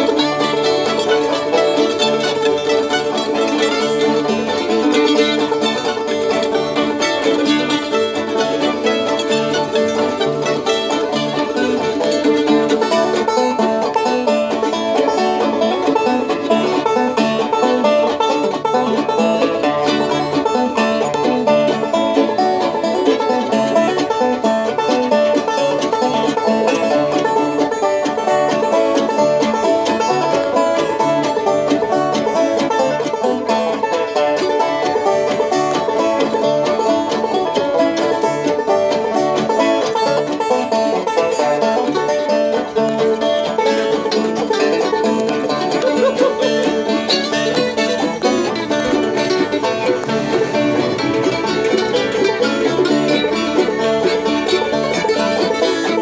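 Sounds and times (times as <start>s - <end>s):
mandolin picking: 0.0s - 56.0s
resonator banjo picking: 0.0s - 56.0s
strummed acoustic guitar: 0.0s - 56.0s
upright bass: 0.0s - 56.0s.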